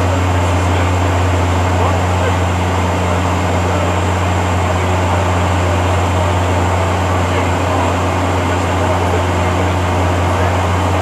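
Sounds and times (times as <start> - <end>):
airliner engine and airflow noise: 0.0 - 11.0.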